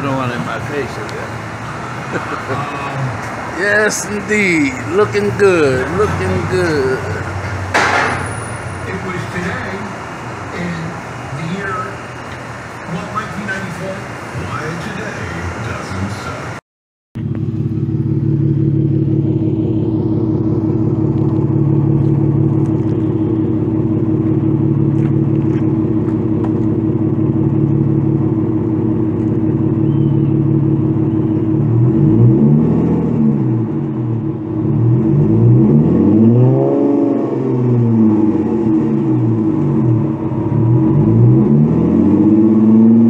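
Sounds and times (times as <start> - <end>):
car engine idling: 0.0 - 16.6, 17.2 - 36.2, 37.2 - 42.6
car engine revving: 0.0 - 16.6, 17.2 - 43.0.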